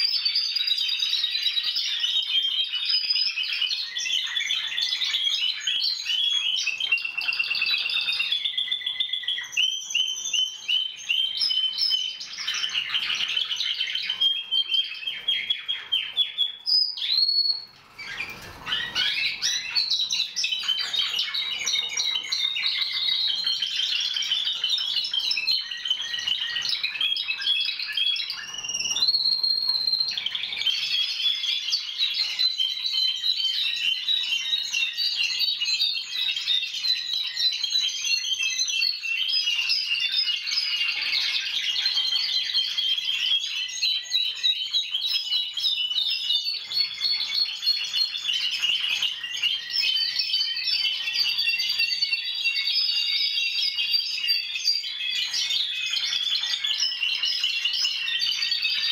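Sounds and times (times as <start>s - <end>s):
canaries singing trills: 0.0s - 58.9s.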